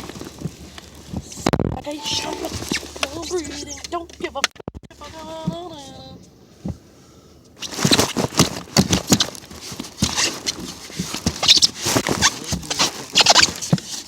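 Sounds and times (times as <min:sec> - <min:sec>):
close rustling and crackling: 0:00.0 - 0:01.8, 0:02.5 - 0:14.0.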